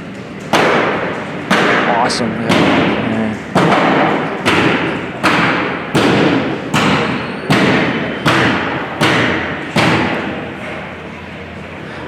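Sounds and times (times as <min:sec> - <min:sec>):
heavy hammer blows echoing: 0:00.5 - 0:10.8.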